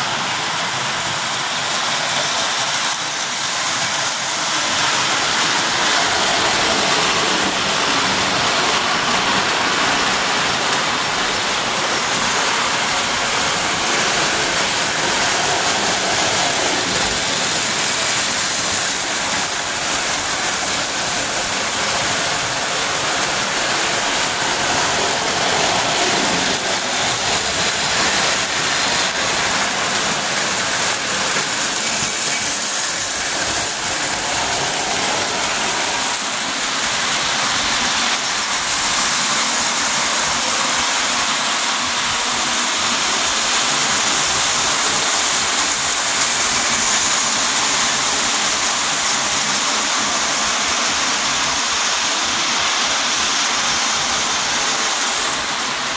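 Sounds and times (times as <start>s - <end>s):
model train motors whirring: 0.0s - 55.9s.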